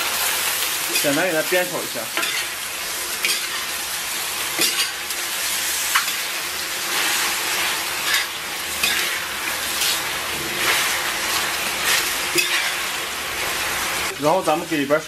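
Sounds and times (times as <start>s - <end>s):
meat sizzling in a wok: 0.0s - 15.0s
metal spatula scraping wok: 0.8s - 14.1s.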